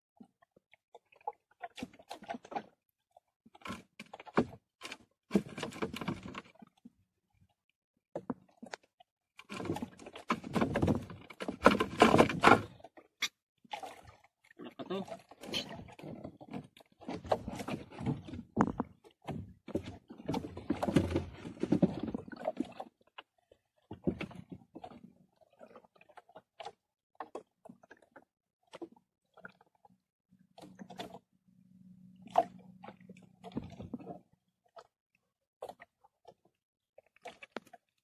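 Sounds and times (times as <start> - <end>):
knocks and clicks on boat: 0.2 - 7.5, 8.1 - 14.0, 15.0 - 31.3, 32.1 - 35.0, 35.6 - 38.0.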